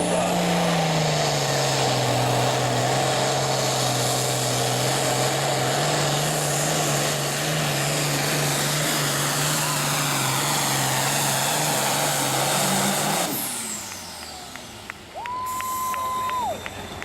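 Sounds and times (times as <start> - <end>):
tractor diesel engine at high revs: 0.0 - 17.0.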